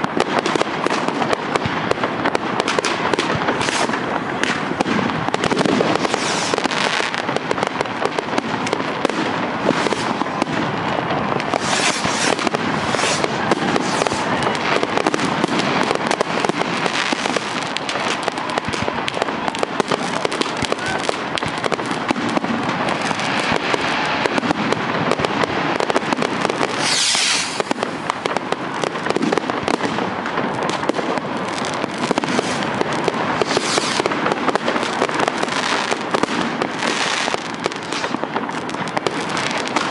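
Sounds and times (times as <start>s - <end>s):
firework hiss: 0.0s - 39.9s
fireworks crackling and banging: 0.0s - 39.9s.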